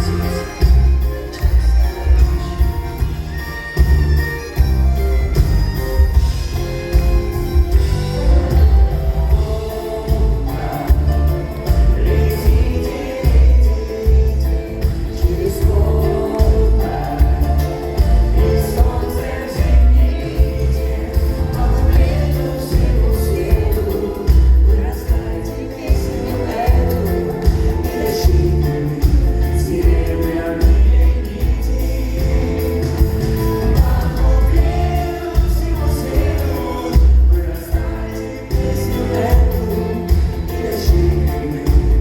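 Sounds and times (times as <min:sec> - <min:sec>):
live pop band with singing: 0:00.0 - 0:42.0.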